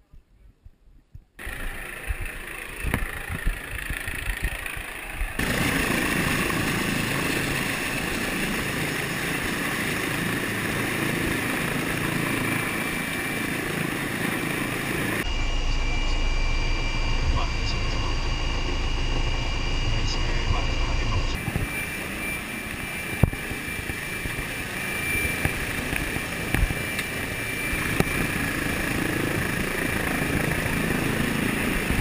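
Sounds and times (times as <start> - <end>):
low rotor rumble: 0.1 - 32.0
helicopter turbine whine: 1.4 - 32.0
loud steady rush: 1.4 - 32.0.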